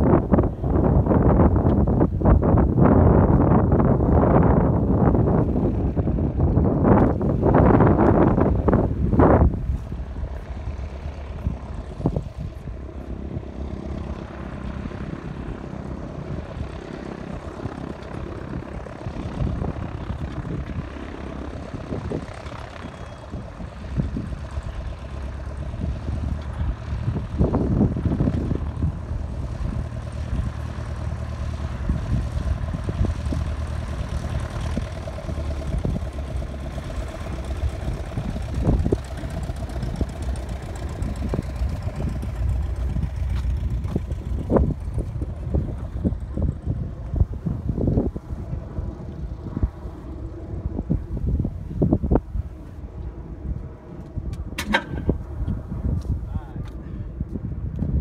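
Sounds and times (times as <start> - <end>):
propeller engine idling: 0.0 - 58.0.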